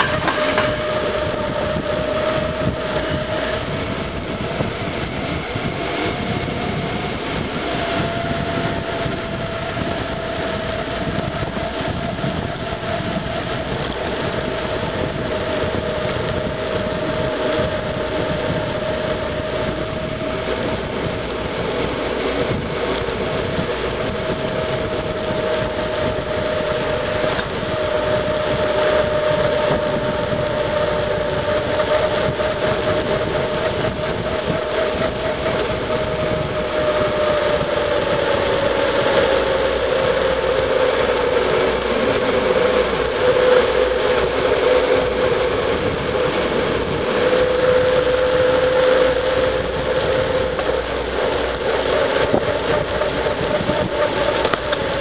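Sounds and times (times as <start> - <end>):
bicycle coasting on road: 0.0 - 55.0
humming tone: 0.0 - 55.0
wind rushing: 0.0 - 55.0.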